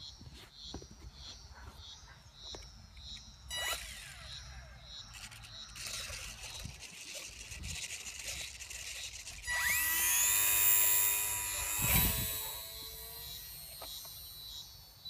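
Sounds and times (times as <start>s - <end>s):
small electric motor and propeller whine: 2.5s - 15.0s.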